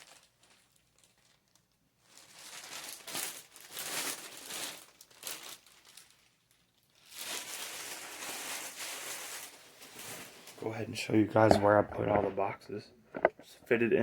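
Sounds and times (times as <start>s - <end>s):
packaging rustling and crinkling: 0.0s - 12.5s.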